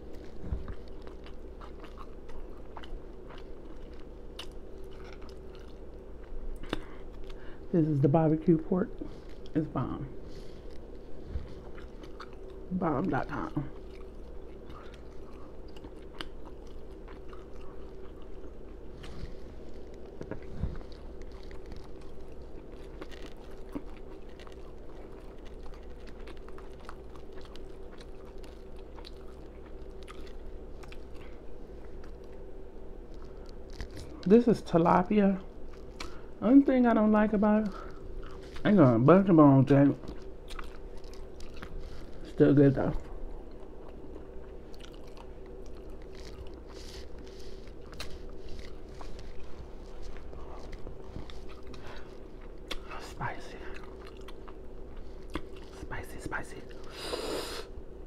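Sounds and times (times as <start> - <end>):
person chewing food: 0.0 - 7.7, 8.9 - 58.0
faint steady hum: 0.0 - 58.0.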